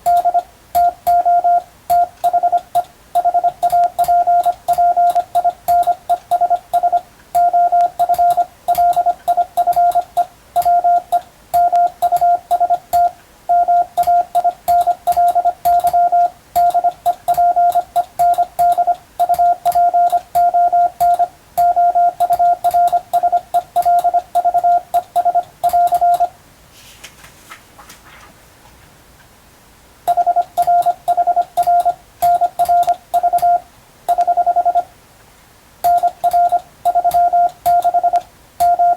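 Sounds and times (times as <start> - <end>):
morse code beeps: 0.0 - 26.4, 30.1 - 34.9, 35.9 - 38.9.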